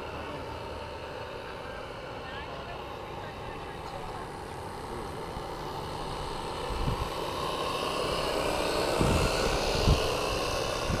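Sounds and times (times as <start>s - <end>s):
model steam engine buzzing: 0.0s - 11.0s.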